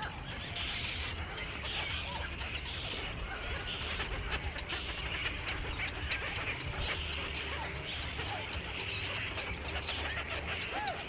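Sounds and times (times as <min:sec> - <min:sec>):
flock of small birds chirping: 0:00.0 - 0:11.0.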